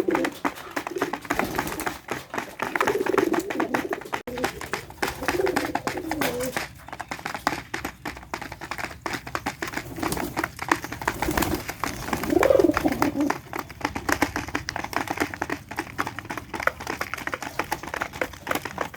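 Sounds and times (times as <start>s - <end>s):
pigeons cooing: 0.0s - 7.0s, 9.8s - 18.9s.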